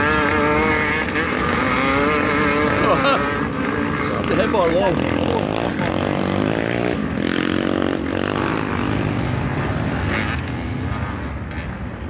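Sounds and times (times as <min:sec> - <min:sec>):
dirt bikes revving: 0:00.0 - 0:12.0.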